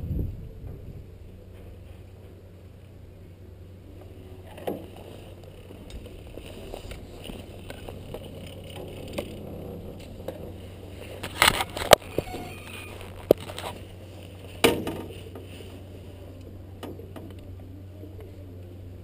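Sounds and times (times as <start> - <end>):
chairlift low hum: 0.0 - 19.0.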